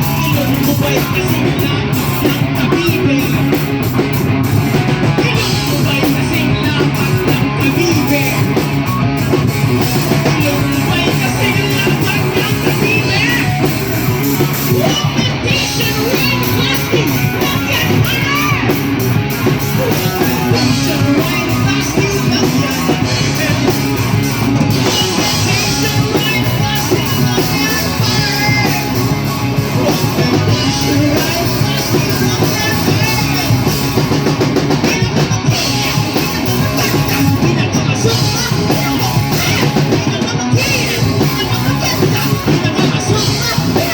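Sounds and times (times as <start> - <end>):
drums: 0.0 - 43.9
electric guitar: 0.0 - 43.9
live rock band playing: 0.0 - 43.9
person singing: 0.0 - 43.9.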